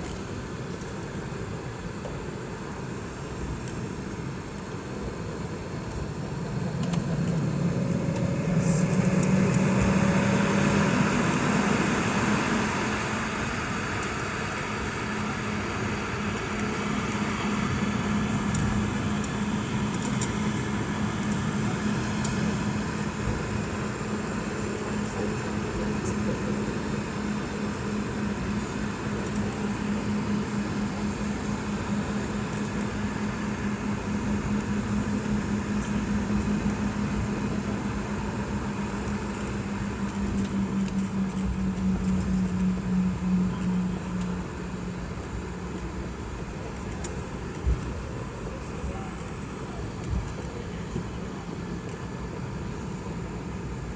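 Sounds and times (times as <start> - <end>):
jet engine cabin drone: 0.0 - 53.9
low hum: 3.8 - 53.9.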